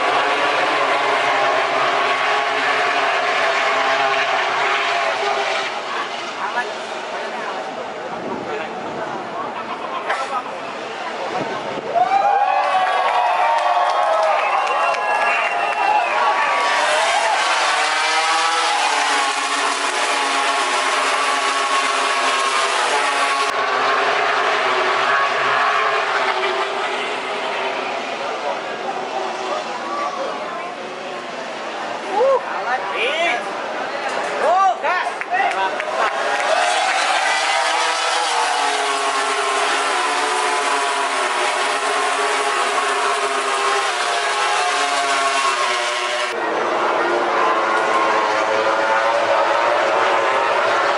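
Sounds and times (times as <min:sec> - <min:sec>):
racing motorcycle engines: 0:00.0 - 0:50.9.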